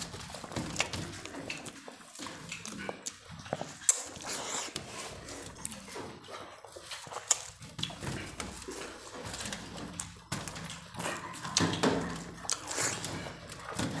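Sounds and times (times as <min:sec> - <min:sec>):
wet chewing and mouth smacking: 0:00.0 - 0:14.0.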